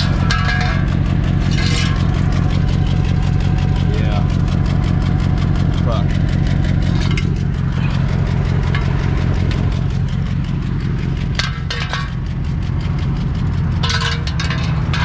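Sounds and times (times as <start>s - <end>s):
car engine droning loudly: 0.0s - 15.0s.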